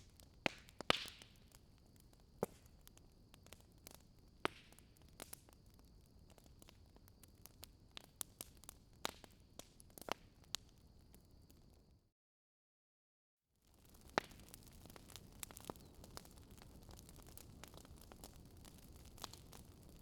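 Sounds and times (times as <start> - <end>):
wood fire crackling and popping: 0.0 - 11.9, 13.6 - 20.0.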